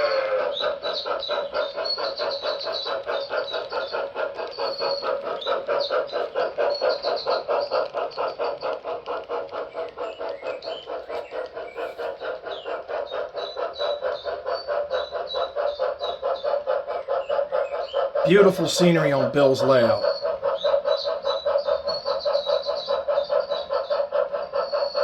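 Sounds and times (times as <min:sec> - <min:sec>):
model steam locomotive chuffing: 0:00.0 - 0:25.0.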